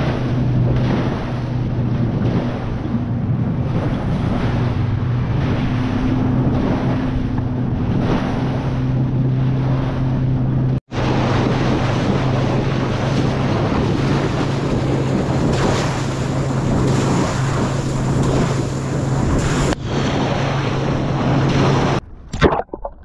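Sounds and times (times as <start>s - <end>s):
outboard motor running: 0.0s - 23.0s
water rushing past hull: 0.0s - 23.0s
wind buffeting microphone: 0.0s - 23.0s.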